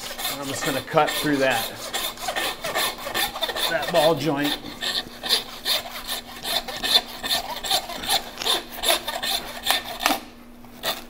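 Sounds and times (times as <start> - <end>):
handsaw rasping through bone: 0.0 - 11.0.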